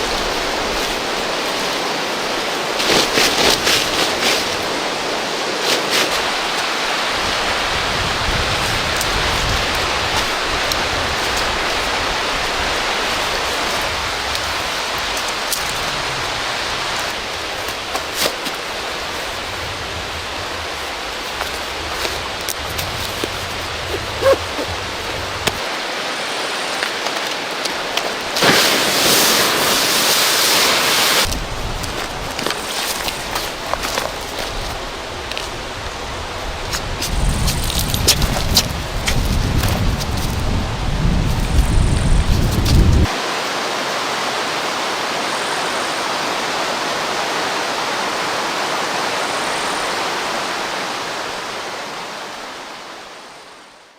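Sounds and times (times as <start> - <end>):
river water rushing: 0.0 - 36.8, 43.1 - 53.9.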